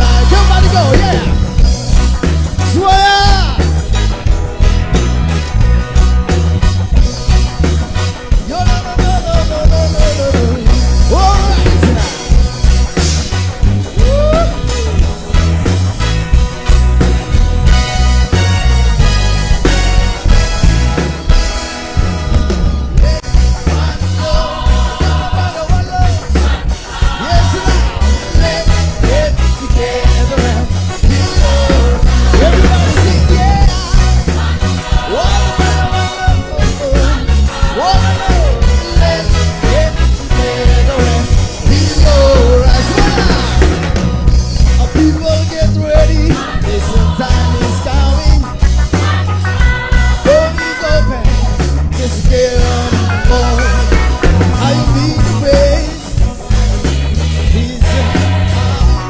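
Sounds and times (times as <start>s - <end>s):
choir singing reggae: 0.0s - 59.0s
heavy bass beat: 0.0s - 59.0s.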